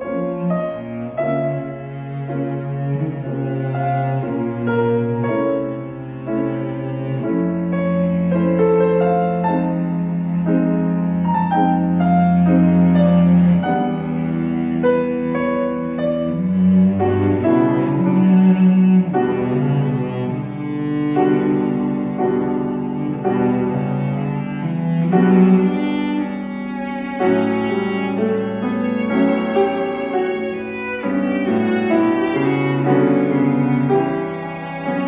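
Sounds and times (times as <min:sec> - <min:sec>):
cello bowing long notes: 0:00.0 - 0:35.0
piano chords: 0:00.0 - 0:35.0.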